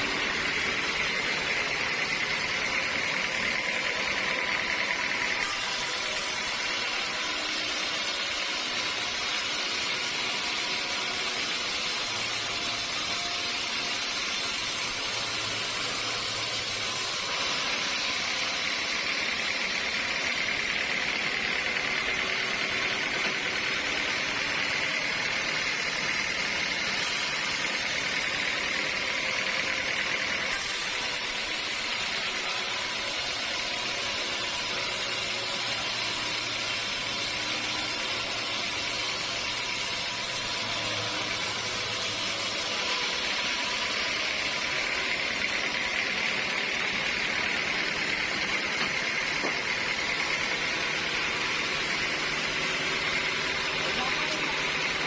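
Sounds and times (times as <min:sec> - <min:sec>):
machine motor: 0:00.0 - 0:55.0
sawmill saw cutting log: 0:00.0 - 0:55.0.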